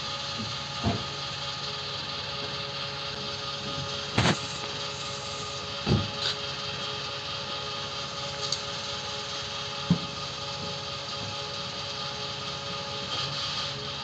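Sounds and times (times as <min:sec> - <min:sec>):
fuel pump humming: 0:00.0 - 0:14.0.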